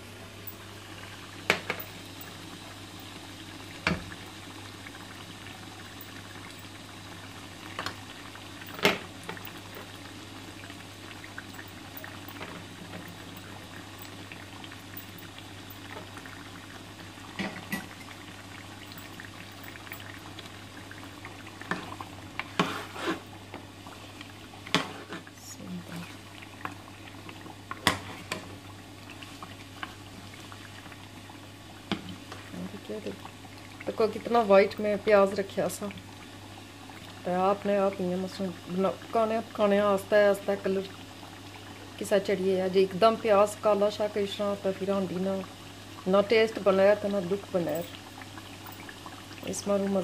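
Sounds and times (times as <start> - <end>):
curry bubbling in a pot: 0.0 - 50.0.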